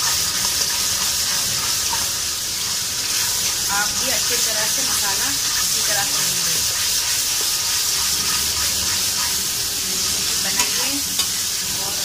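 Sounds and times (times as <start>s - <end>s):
metal spatula stirring: 0.0s - 11.4s
masala sizzling in oil: 0.0s - 12.0s.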